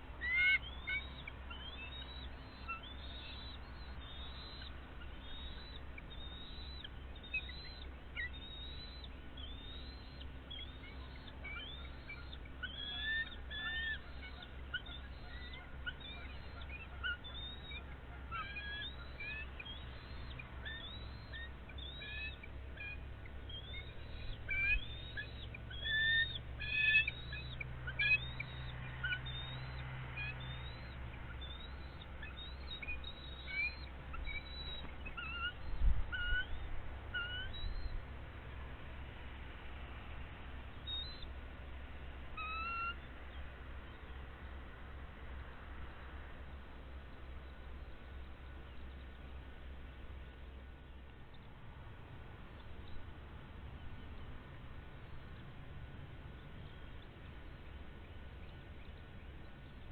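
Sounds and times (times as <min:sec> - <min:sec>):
birds chirping: 0:00.0 - 0:38.1, 0:40.6 - 0:44.7, 0:52.3 - 0:59.9.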